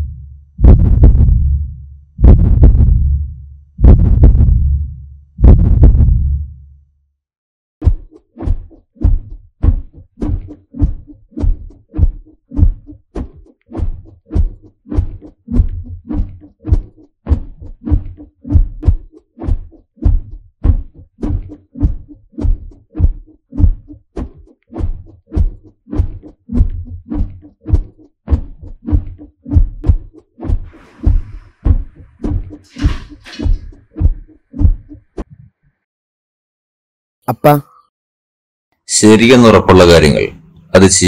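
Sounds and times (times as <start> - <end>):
heartbeat thumps: 0.0 - 6.5, 7.8 - 35.1.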